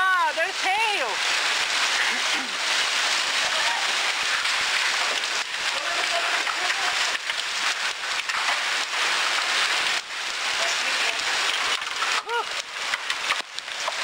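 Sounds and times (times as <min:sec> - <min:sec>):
heavy rain and hail pelting: 0:00.0 - 0:14.0.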